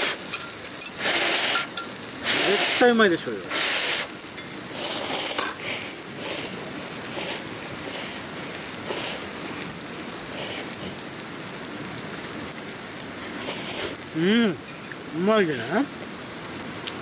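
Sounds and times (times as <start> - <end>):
noodles sizzling on a griddle: 0.0 - 17.0.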